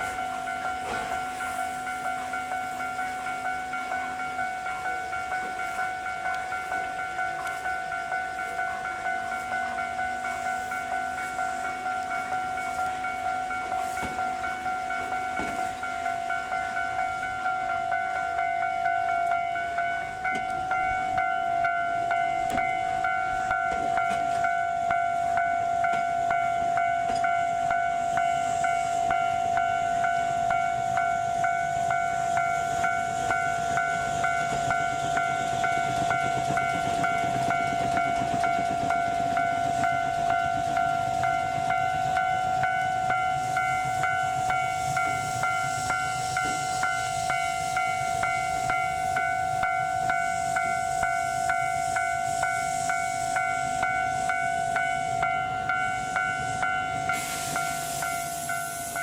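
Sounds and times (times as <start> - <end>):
electric train running past: 0.0 - 59.0
level crossing bell ringing: 0.0 - 59.0.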